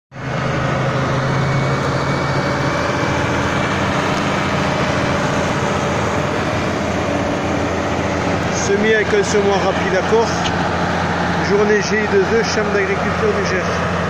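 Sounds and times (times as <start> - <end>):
tractor diesel engine running: 0.1 - 14.0.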